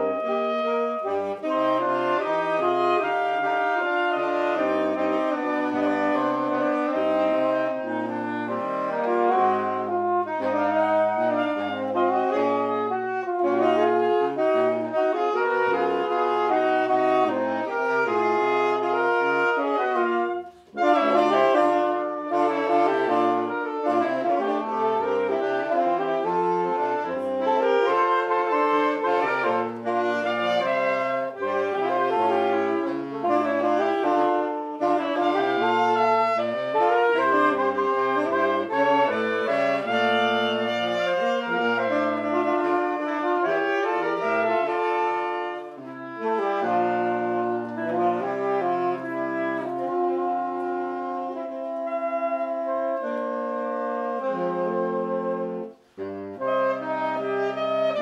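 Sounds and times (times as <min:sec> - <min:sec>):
saxophone quartet playing: 0:00.0 - 0:58.0.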